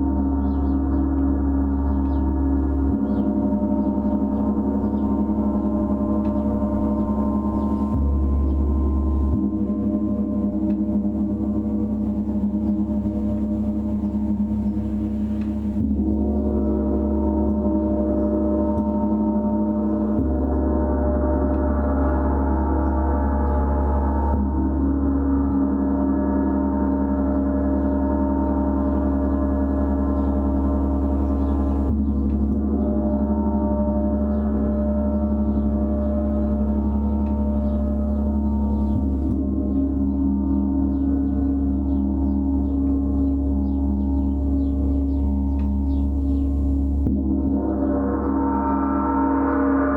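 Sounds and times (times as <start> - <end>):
deep hum: 0.0 - 49.9.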